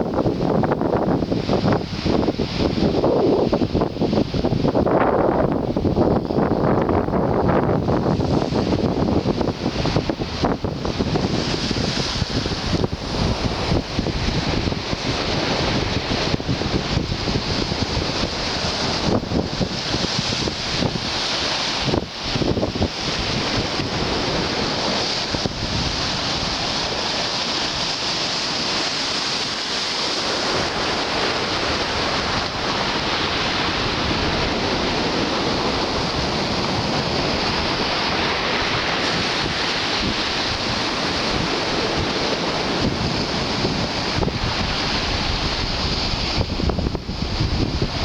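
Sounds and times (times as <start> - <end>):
surf washing onto beach: 0.0 - 48.0
wind buffeting microphone: 0.0 - 48.0.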